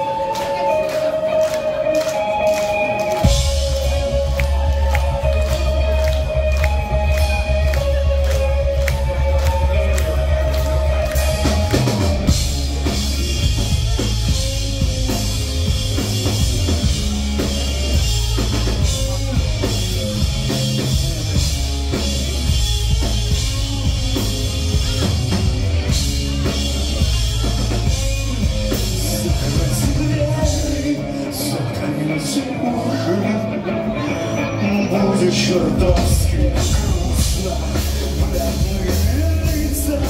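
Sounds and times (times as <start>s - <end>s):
electric guitars: 0.0s - 40.0s
rock band playing live: 0.0s - 40.0s
rock drum kit: 0.1s - 33.0s, 34.9s - 40.0s.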